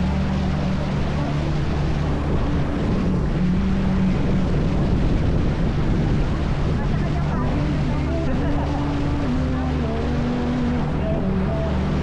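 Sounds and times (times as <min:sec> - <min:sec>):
boat engine droning: 0:00.0 - 0:12.0
rushing wind and water: 0:00.0 - 0:12.0.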